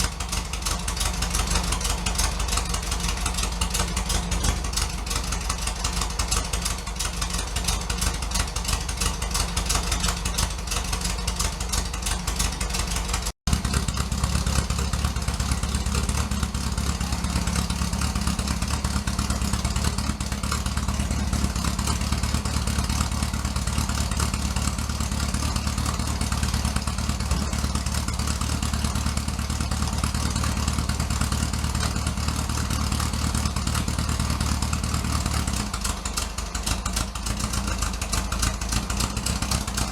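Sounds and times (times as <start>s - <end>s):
loud engine running: 0.0s - 39.9s.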